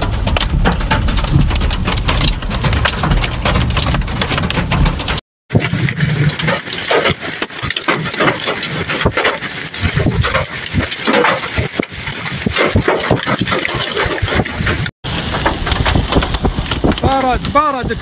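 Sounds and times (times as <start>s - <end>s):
wind-driven hail and rain: 0.0s - 18.0s.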